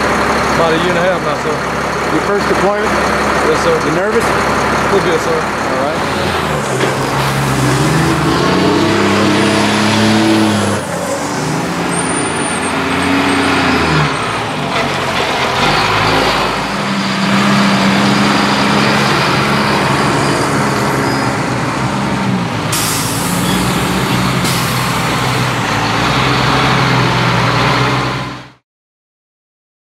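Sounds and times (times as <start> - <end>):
heavy trucks driving off: 0.0 - 28.6.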